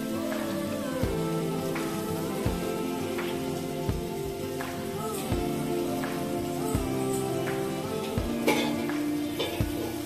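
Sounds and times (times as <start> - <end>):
background music with soft beat: 0.0 - 10.0.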